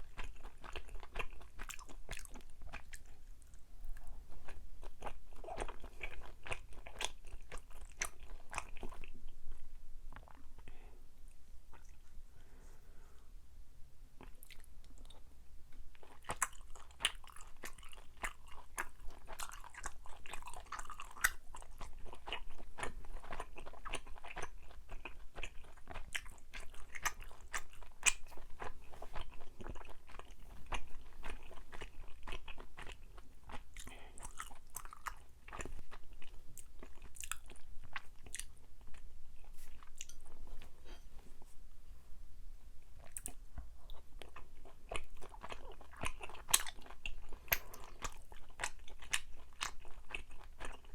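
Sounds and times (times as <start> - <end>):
person chewing sticky food: 0.0 - 12.3, 14.2 - 15.3, 15.9 - 41.6, 42.8 - 50.9.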